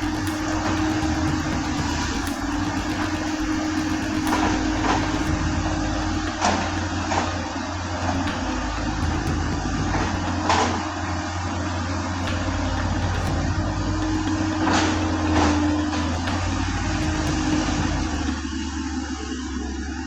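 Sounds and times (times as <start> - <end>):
sharp knocks: 0.0 - 18.6.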